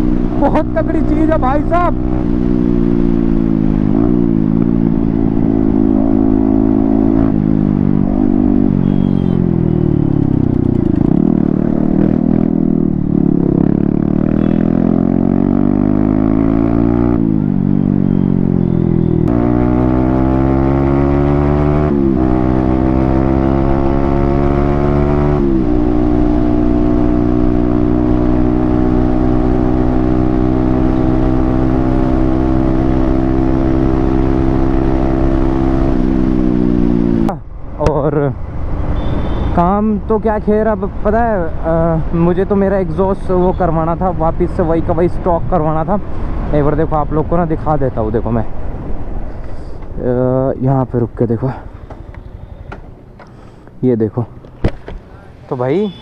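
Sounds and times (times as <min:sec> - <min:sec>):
motorcycle engine revving: 0:00.0 - 0:44.8, 0:54.4 - 0:56.0.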